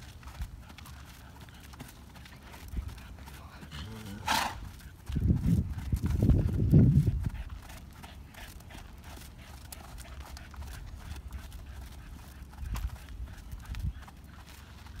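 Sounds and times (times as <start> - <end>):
horse hoofbeats trotting on sand: 0.0 - 15.0.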